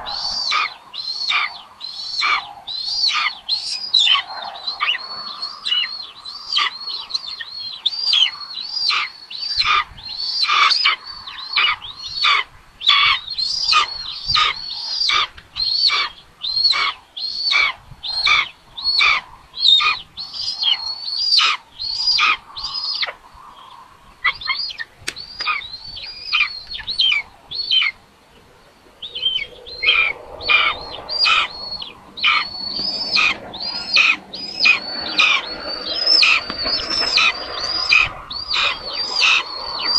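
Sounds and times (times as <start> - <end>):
nestling birds begging calls: 0.0 - 39.9.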